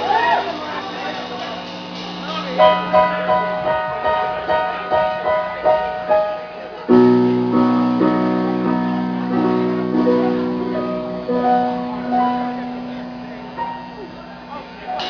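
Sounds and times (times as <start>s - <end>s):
keyboard playing: 2.2s - 15.0s.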